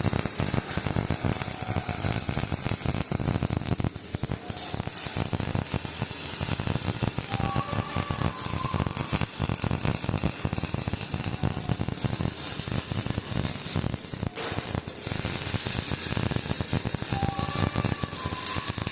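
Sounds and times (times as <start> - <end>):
welding arc crackling: 0.0 - 18.9.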